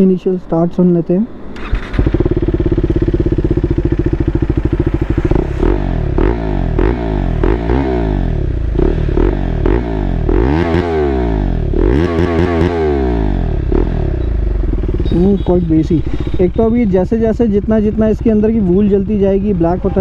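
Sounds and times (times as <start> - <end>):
motorcycle engine idling and revving: 1.5 - 20.0.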